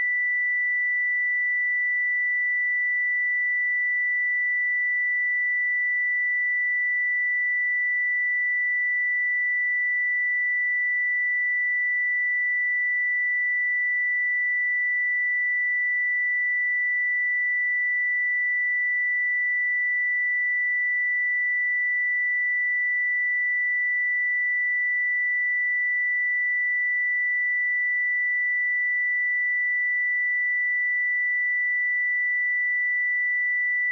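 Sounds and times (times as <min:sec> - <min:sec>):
high-pitched sine test tone: 0:00.0 - 0:33.9.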